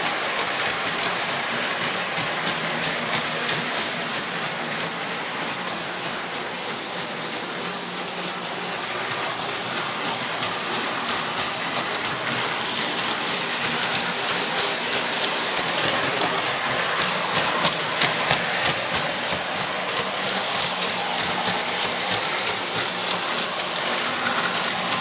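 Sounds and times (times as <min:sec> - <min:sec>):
model train wheels on rail: 0:00.0 - 0:25.0.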